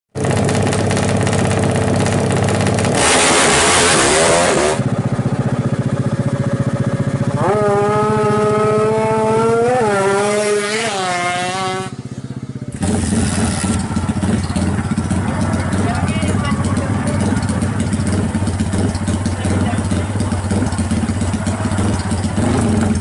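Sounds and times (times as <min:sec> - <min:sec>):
motorcycle engine revving: 0:00.1 - 0:23.0.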